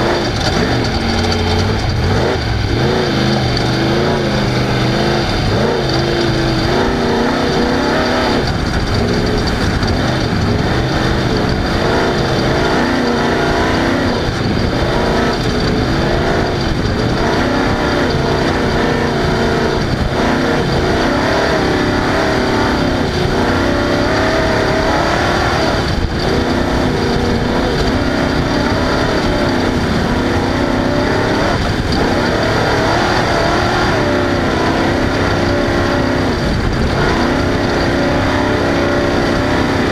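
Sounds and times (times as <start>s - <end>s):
race vehicle engine revving: 0.0s - 39.9s.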